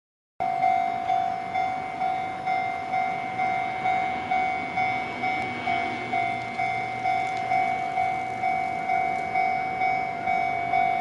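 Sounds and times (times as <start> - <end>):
level crossing alarm bell: 0.4 - 11.0.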